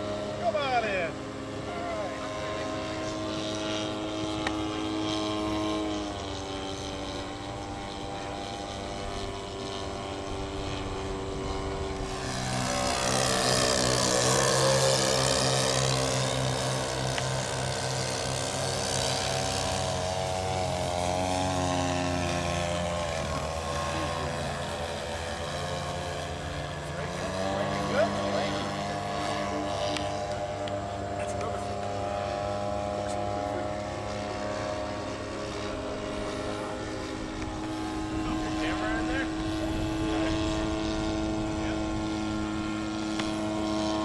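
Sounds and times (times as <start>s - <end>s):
model airplane engine steady: 0.0s - 44.0s
model airplane flying past: 0.0s - 44.0s.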